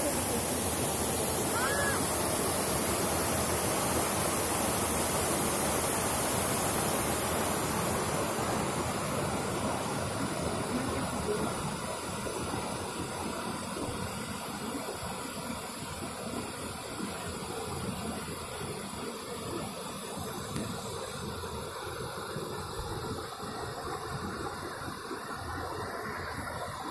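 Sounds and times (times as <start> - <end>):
waterfall rushing over rocks: 0.0 - 26.9.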